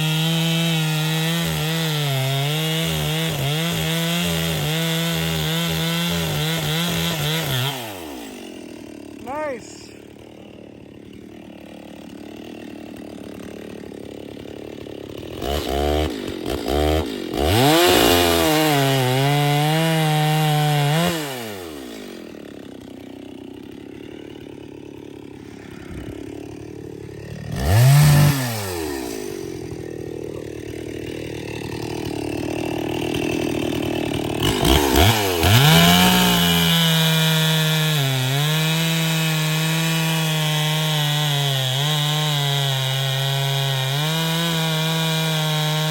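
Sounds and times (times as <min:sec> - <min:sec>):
chainsaw cutting wood: 0:00.0 - 0:45.9
chainsaw idling and revving: 0:00.0 - 0:45.9.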